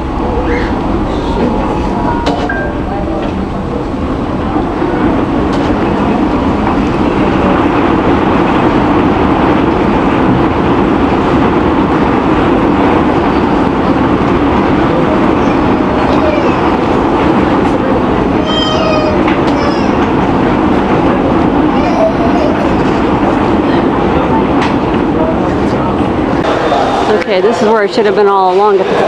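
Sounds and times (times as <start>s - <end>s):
tornado roaring: 0.0s - 27.6s.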